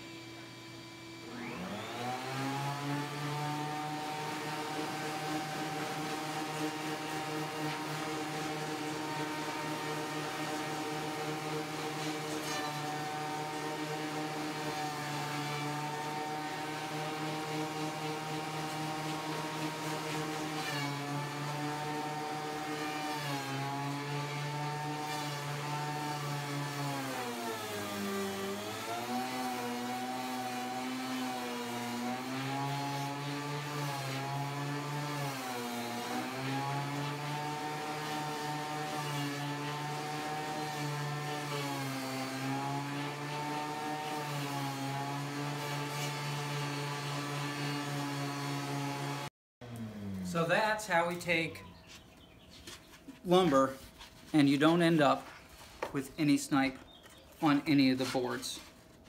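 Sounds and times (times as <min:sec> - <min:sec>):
thickness planer cutting boards: 0:00.0 - 0:59.0.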